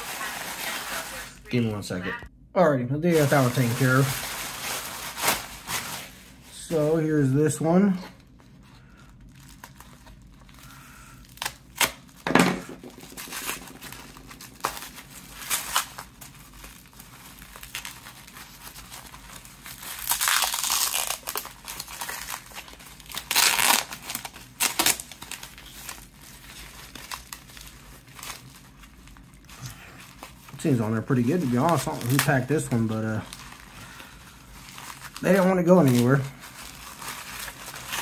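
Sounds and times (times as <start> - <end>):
plastic wrapping crinkling and ripping: 0.0 - 1.5, 3.1 - 7.1, 8.1 - 38.0.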